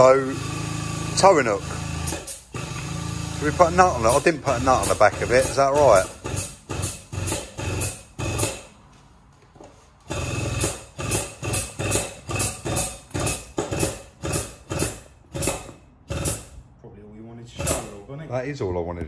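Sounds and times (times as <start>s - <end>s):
rhythmic mechanical knocking: 0.0s - 8.7s, 10.1s - 16.6s, 17.6s - 18.0s.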